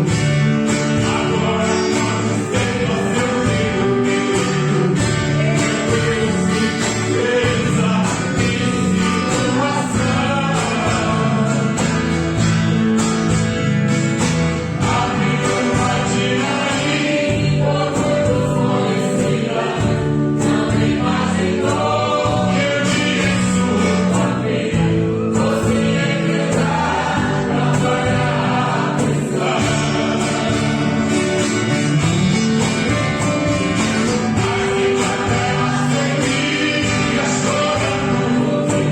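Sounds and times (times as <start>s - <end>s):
two men singing a hymn: 0.0s - 12.8s, 14.5s - 38.9s
guitar accompaniment: 0.0s - 38.9s.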